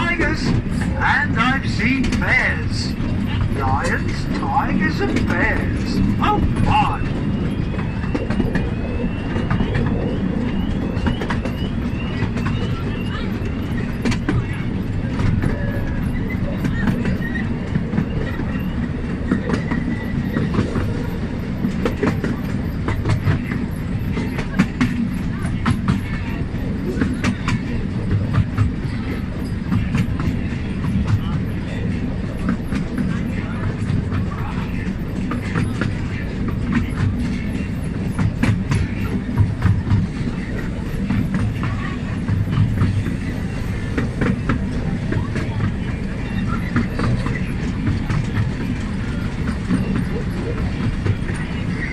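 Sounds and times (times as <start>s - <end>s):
train wheels rumbling: 0.0s - 51.9s
wheels clicking over rail joints: 0.0s - 51.9s.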